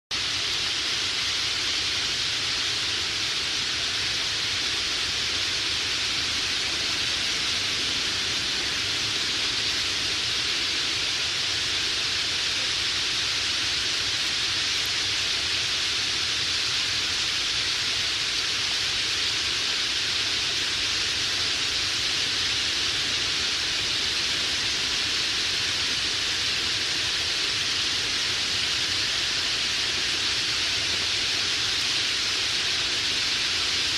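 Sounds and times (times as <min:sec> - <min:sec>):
huge bird flock chattering: 0:00.6 - 0:33.9.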